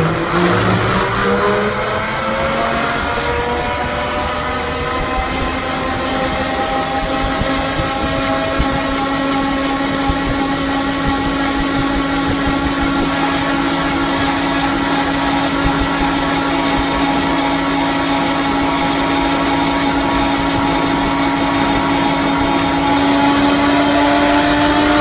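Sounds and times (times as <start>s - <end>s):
aircraft engine and propeller droning: 0.0s - 25.0s
wind buffeting microphone: 2.2s - 23.2s.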